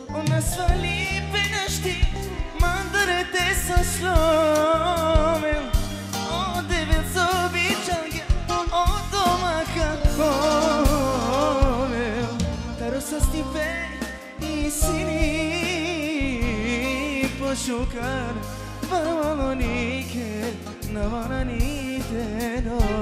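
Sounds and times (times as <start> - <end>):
band music: 0.0 - 23.0
man singing with vibrato: 0.0 - 23.0.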